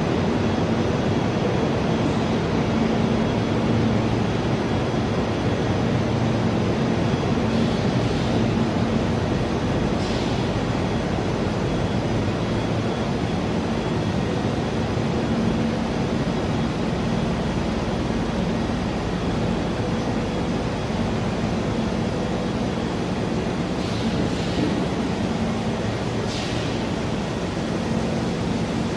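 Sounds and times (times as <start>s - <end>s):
machinery hum: 0.0s - 28.9s.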